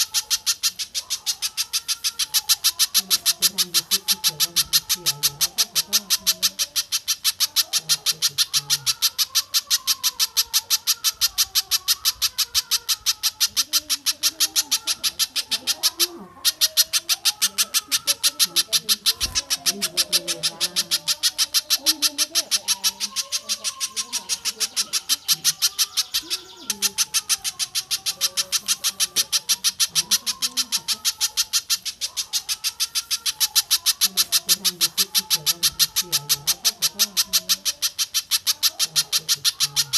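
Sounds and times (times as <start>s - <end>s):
lower bird warbling: 0.0s - 39.9s.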